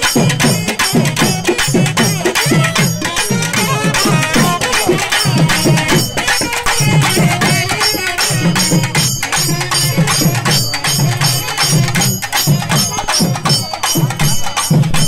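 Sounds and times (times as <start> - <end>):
festival drumming and percussion: 0.0 - 15.0.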